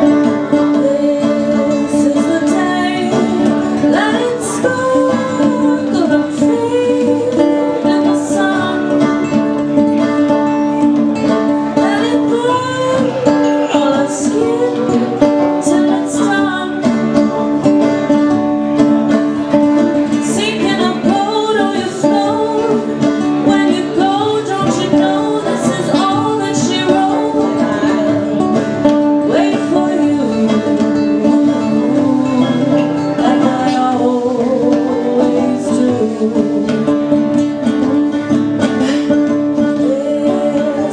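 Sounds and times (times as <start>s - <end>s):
picked banjo: 0.0s - 40.9s
strummed acoustic guitar: 0.0s - 40.9s
woman singing: 0.0s - 40.9s.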